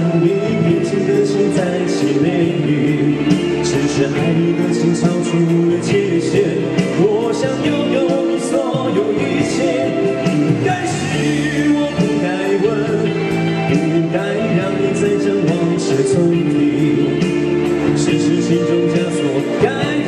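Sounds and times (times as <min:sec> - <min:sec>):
electronic keyboard: 0:00.0 - 0:20.0
guitar: 0:00.0 - 0:20.0
man singing: 0:00.0 - 0:20.0.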